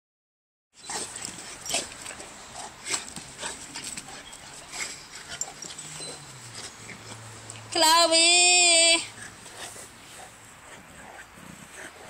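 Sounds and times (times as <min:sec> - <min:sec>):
dogs play-fighting: 0:00.8 - 0:07.7, 0:09.1 - 0:12.0.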